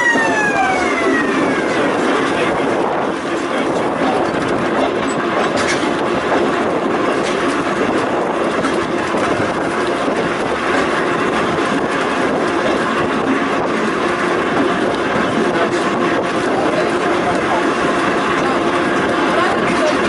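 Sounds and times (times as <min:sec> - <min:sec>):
clickety-clack of rail joints: 0:00.0 - 0:20.0
railway wheels rumbling on rails: 0:00.0 - 0:20.0.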